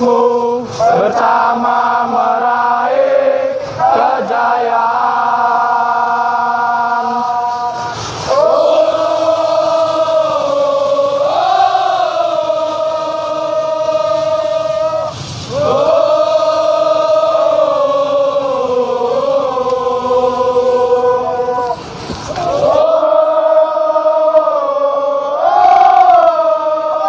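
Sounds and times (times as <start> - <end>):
crowd singing wordless melody: 0.0 - 27.0.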